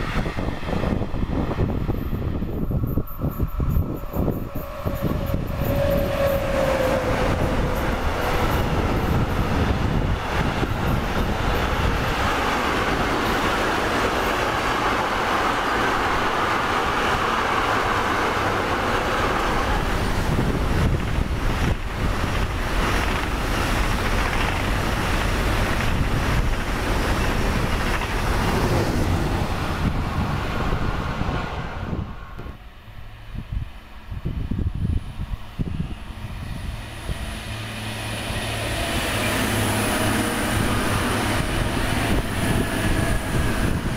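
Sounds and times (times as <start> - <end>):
train knocking and rattling: 0.0 - 43.9
train passing: 0.0 - 43.9.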